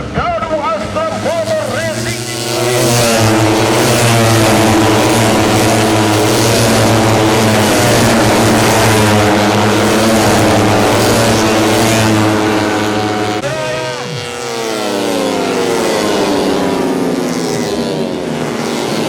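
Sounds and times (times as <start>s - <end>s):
motorcycle engines at high revs: 0.0s - 19.0s.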